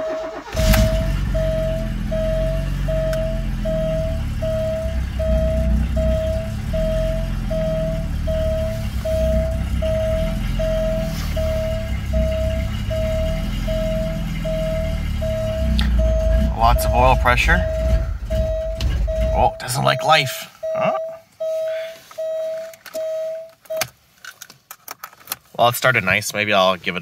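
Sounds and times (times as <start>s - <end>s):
car warning chime beeping: 0.0s - 23.9s
car engine starting and idling: 0.0s - 26.9s.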